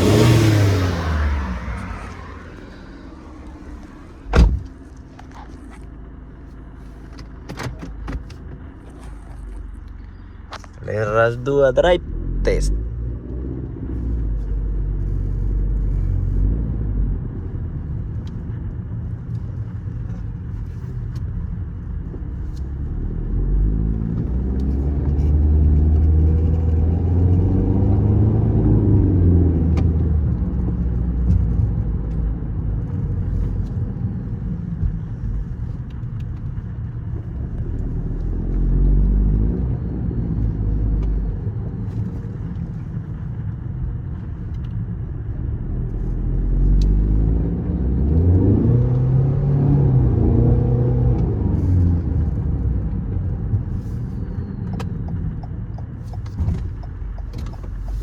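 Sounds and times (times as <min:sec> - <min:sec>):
car engine rumble while driving: 0:00.0 - 0:58.0.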